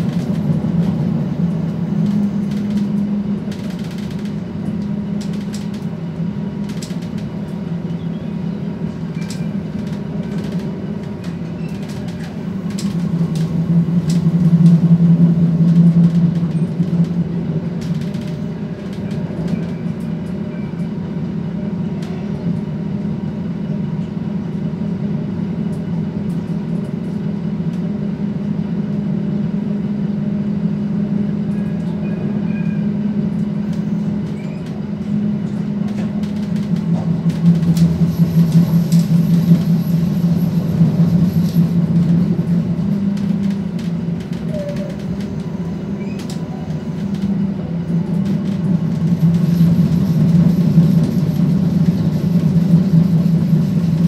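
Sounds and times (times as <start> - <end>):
wheel and rail noise: 0.0 - 22.7, 31.4 - 54.0
diesel engine drone: 0.0 - 54.0.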